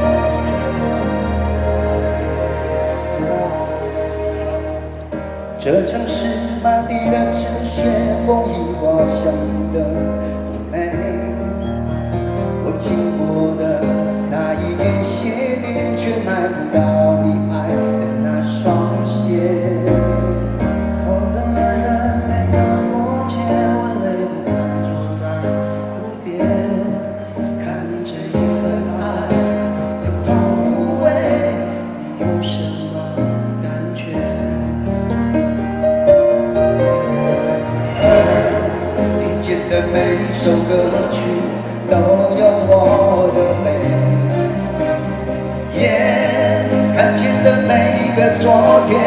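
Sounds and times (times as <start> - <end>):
instrumental pop music: 0.0 - 49.0.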